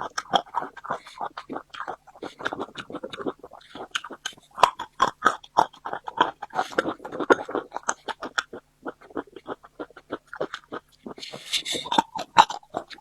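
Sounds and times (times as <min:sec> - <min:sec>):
wet open-mouthed chewing: 0:00.0 - 0:13.0.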